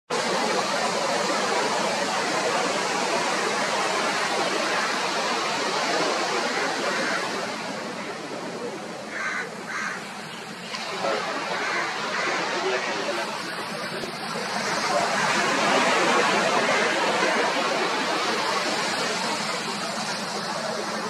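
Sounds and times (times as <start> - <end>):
rushing surf or wind: 0.1 - 21.0.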